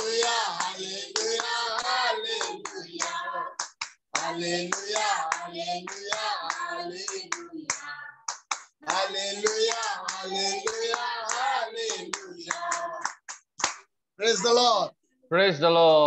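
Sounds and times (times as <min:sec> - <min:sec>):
group singing worship song: 0:00.0 - 0:13.4
rhythmic hand-clapping: 0:00.0 - 0:14.7.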